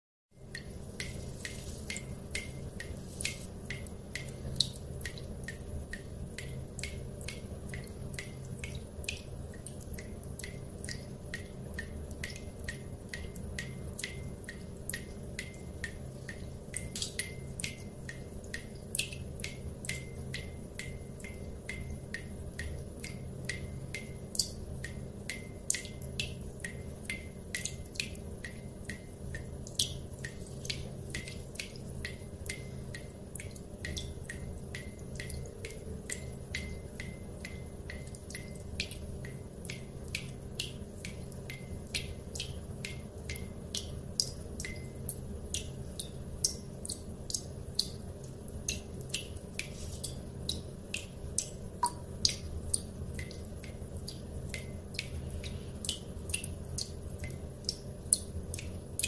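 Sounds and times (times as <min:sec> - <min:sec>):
steady low hum: 0:00.4 - 0:59.0
water dripping fast: 0:00.4 - 0:59.0.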